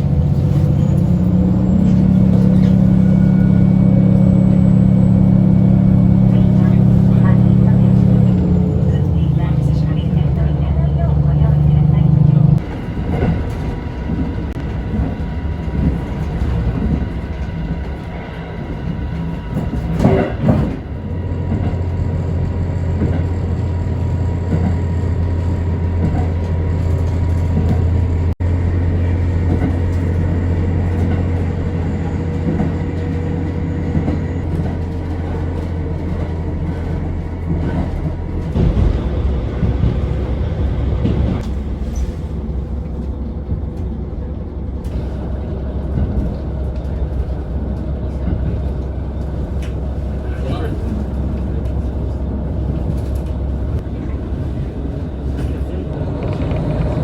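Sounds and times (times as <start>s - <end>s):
diesel railcar engine drone: 0.0s - 57.0s.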